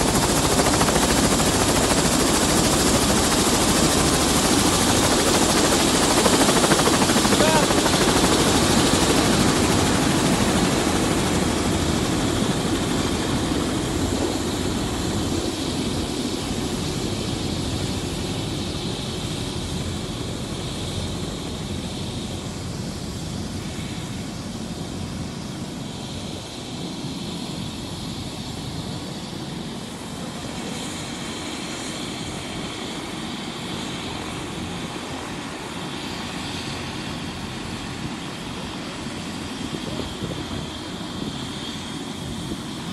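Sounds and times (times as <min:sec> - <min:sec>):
helicopter engine and rotor: 0:00.0 - 0:42.9.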